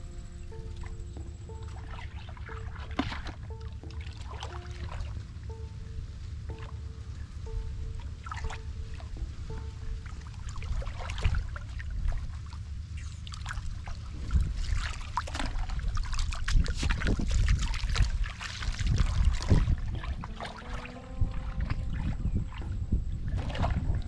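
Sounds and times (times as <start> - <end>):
low rumble: 0.0 - 24.0
water sloshing and splashing: 0.0 - 24.0.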